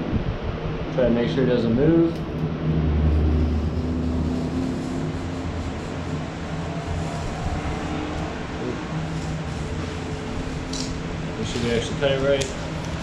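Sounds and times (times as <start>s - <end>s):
low engine rumble: 0.0s - 13.0s
steady low hum: 0.0s - 13.0s.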